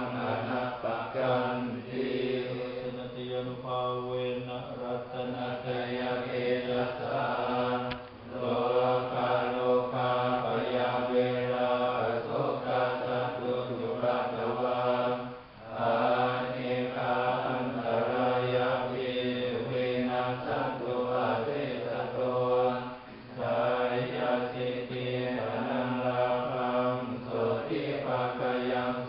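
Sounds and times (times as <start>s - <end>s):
monks chanting in unison: 0.0s - 29.0s.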